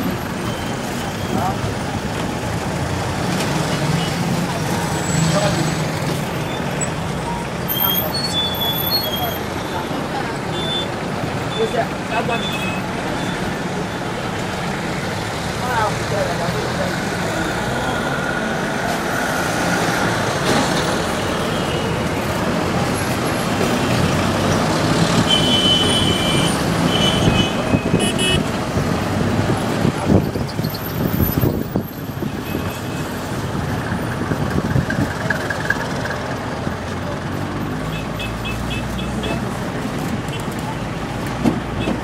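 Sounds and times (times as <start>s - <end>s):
traffic passing: 0.0s - 42.0s
vehicle engine and road noise: 0.0s - 42.0s.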